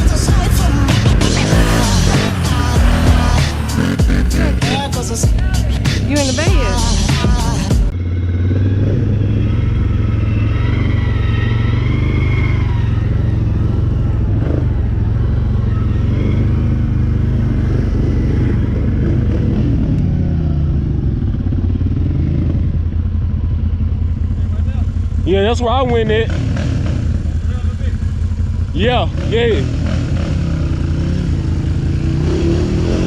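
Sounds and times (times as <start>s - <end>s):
vehicle engine low rumble: 0.0s - 32.7s.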